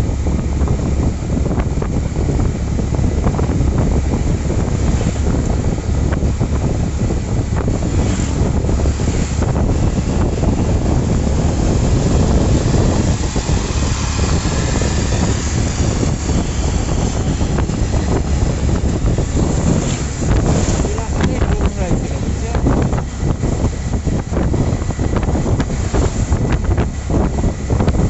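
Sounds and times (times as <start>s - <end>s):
engine and tyres rumbling: 0.0s - 28.0s
wind buffeting microphone: 0.0s - 28.0s.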